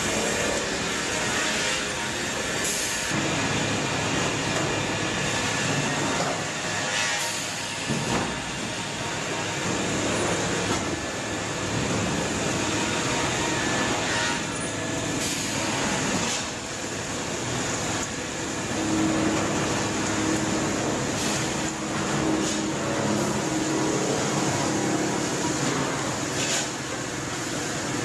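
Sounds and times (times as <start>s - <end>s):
wood-processing machinery running: 0.0s - 28.0s.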